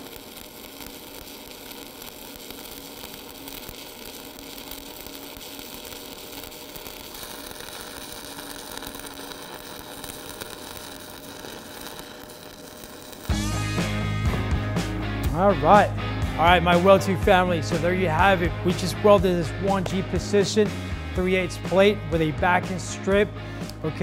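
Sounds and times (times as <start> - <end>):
arc welding crackle: 0.0 - 13.8, 16.4 - 24.0.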